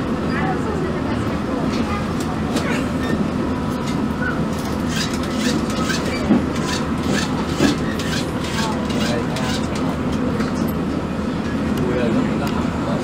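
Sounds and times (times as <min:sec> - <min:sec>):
train rumble inside carriage: 0:00.0 - 0:13.0
wheels clacking on rails: 0:01.2 - 0:12.7.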